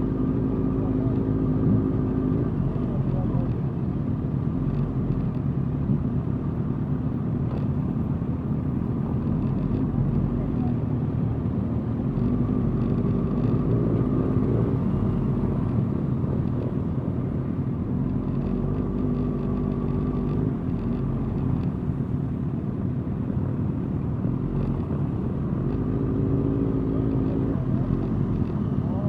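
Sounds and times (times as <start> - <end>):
continuous low rumble: 0.0 - 29.0.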